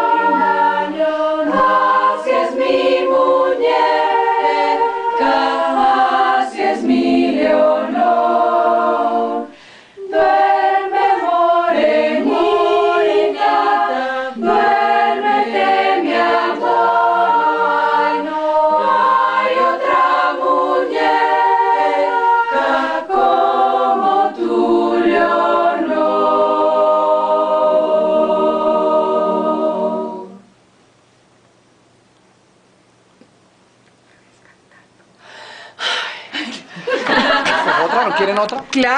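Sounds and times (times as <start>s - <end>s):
choir singing a cappella: 0.0s - 30.6s, 35.2s - 38.3s.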